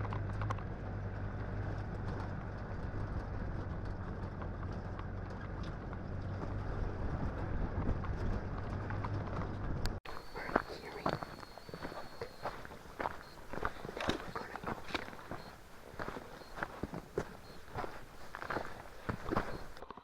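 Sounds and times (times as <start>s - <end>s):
atv engine running: 0.0s - 19.9s.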